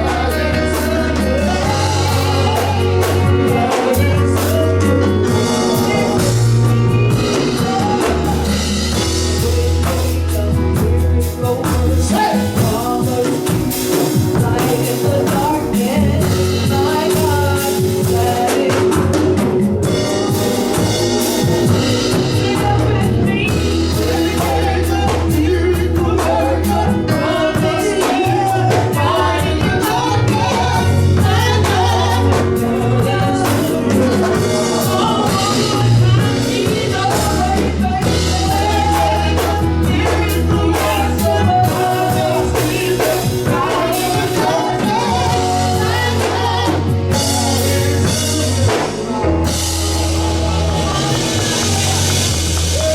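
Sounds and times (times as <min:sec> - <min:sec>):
bass line: 0:00.0 - 0:52.9
drum kit: 0:00.0 - 0:52.9
gospel singing: 0:00.0 - 0:52.9.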